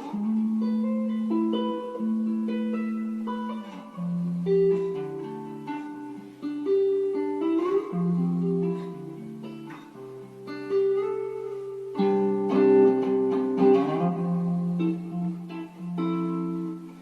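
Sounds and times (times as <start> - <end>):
guitar chords plucked and strummed: 0.0 - 17.0.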